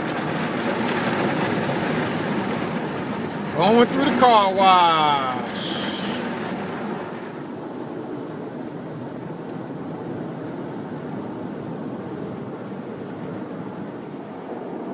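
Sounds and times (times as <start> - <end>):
muffled car wash rushing: 0.0 - 14.7.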